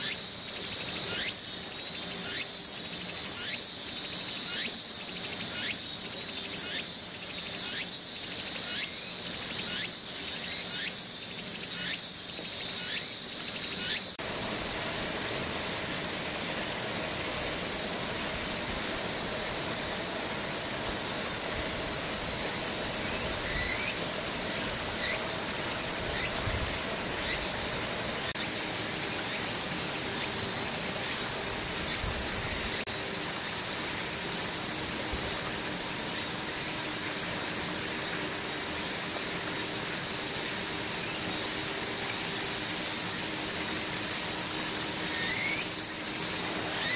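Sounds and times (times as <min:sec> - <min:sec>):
insects chorus: 0:00.0 - 0:46.9.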